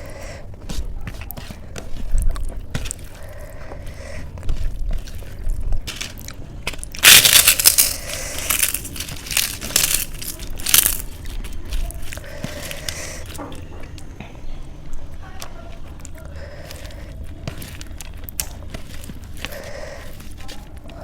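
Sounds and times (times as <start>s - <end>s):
crisp food crunching: 0.0s - 21.0s.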